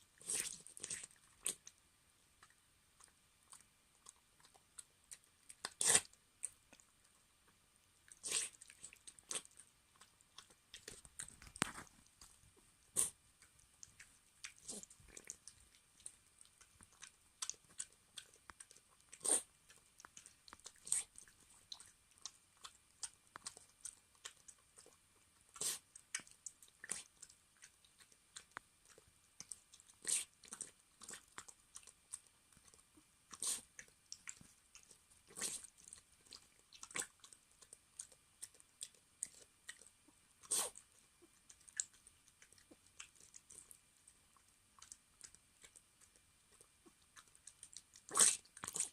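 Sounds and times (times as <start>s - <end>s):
dog chewing and crunching food: 0.0s - 48.9s.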